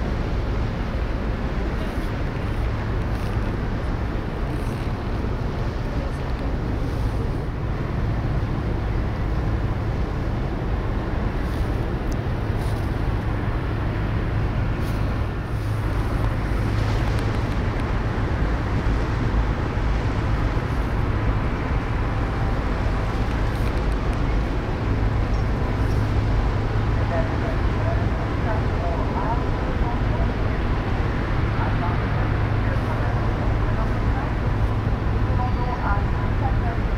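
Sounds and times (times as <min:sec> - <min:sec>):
low engine rumble: 0:00.0 - 0:36.9
outdoor noise: 0:00.0 - 0:36.9.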